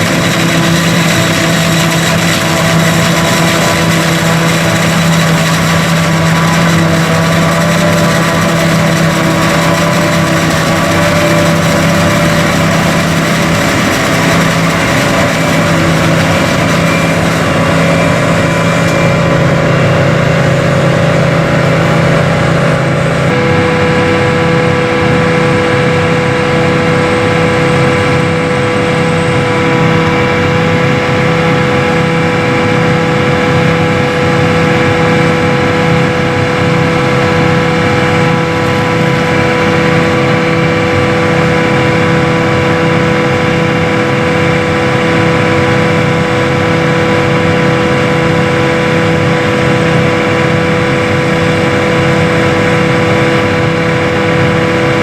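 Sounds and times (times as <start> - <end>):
forage harvester machine drone: 0.0 - 55.0
steady machine whine: 0.0 - 55.0.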